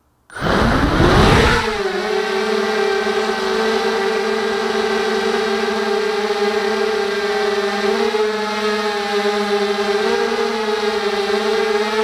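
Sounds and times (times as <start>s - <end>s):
drone motors whining: 0.3s - 12.0s.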